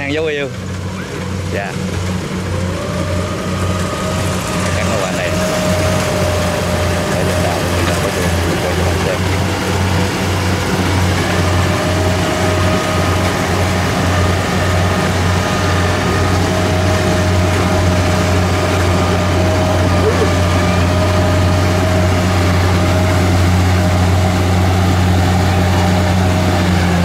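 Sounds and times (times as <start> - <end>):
combine harvester engine drone: 0.0 - 27.0
steady whine: 0.0 - 27.0.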